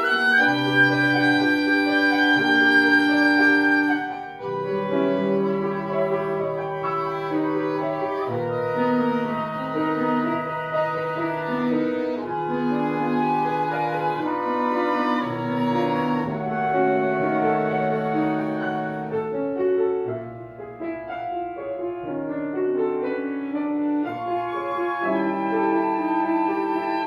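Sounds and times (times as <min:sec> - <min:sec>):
woodwind quintet chamber music: 0:00.0 - 0:27.0.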